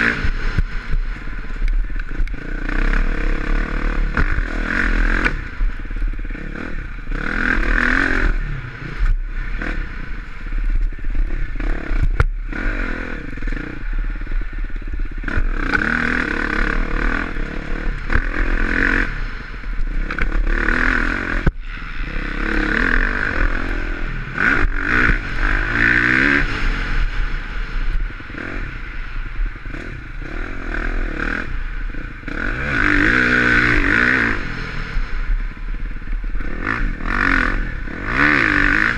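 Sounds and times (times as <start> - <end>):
motorcycle engine revving: 0.0 - 38.9
wind rumble on microphone: 0.0 - 38.9.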